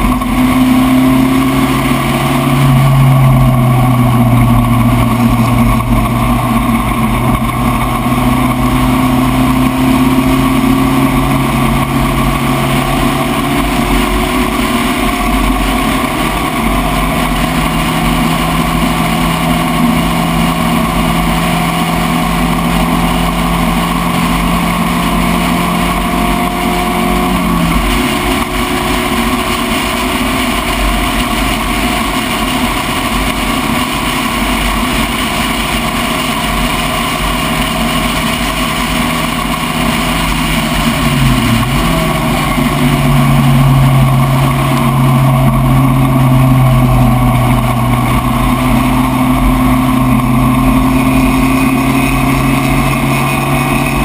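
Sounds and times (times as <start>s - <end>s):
race car engine running: 0.0s - 54.0s.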